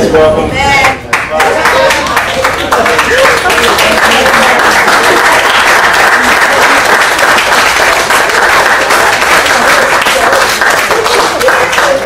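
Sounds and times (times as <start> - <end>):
crowd applauding: 1.1 - 12.0.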